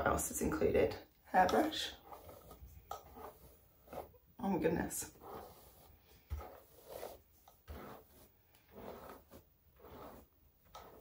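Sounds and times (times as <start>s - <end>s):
hairbrush swishing through hair: 1.9s - 11.0s.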